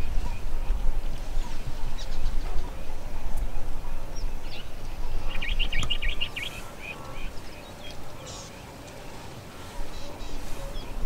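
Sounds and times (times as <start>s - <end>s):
wild birds chirping: 0.0s - 11.0s.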